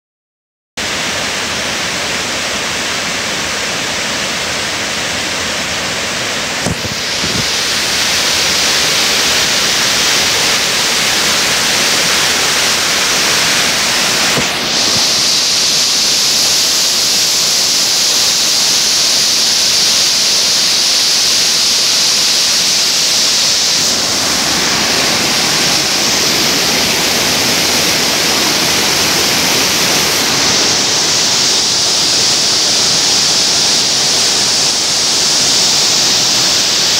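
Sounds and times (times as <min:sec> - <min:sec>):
waterfall rushing over boulders: 0:00.8 - 0:36.9.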